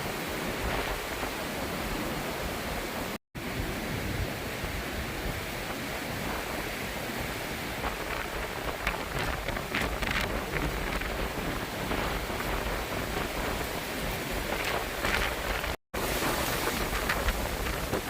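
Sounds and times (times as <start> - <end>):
storm wind and rain: 0.0 - 18.0
wind buffeting on microphone: 0.0 - 18.0.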